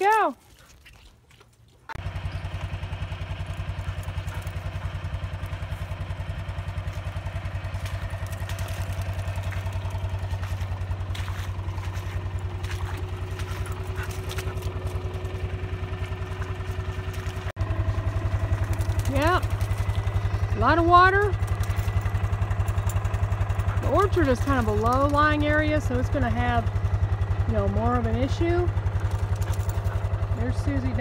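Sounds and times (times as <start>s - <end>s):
vehicle engine running: 1.9s - 31.0s.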